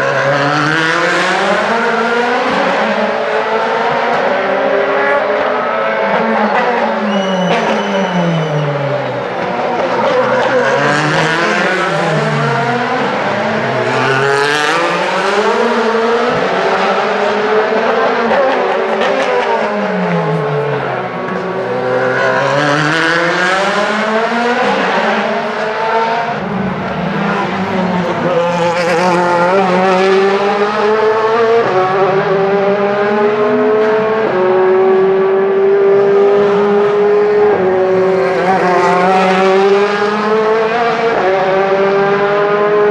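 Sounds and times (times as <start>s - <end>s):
race car accelerating through gears: 0.0s - 42.9s
race cars passing by: 0.0s - 42.9s.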